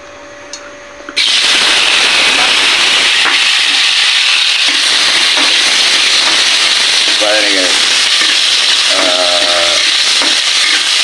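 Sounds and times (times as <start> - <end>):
tomatoes sizzling in hot oil: 1.2 - 11.0.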